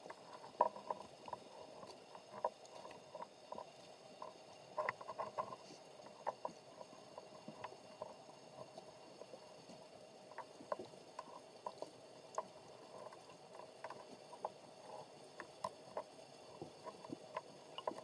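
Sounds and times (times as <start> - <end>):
underwater clicks and knocks: 0.0 - 9.6, 10.3 - 18.0
faint steady hiss: 0.0 - 18.0.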